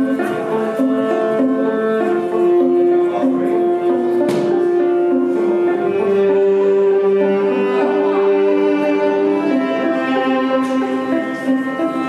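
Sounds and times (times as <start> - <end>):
slow bowed string music: 0.0 - 12.0.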